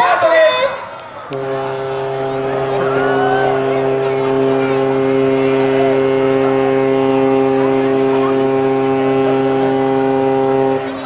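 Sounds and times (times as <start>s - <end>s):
crowd chattering faintly: 0.0s - 11.0s
ship's horn blast: 1.3s - 11.0s.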